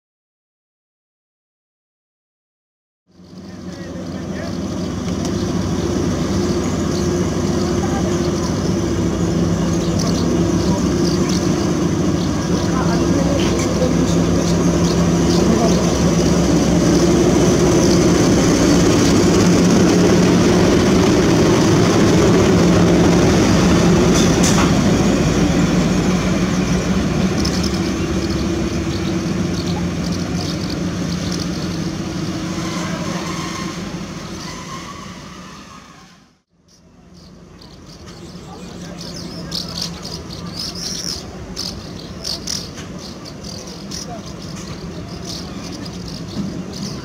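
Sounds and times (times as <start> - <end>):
diesel locomotive engine humming: 3.1 - 47.0.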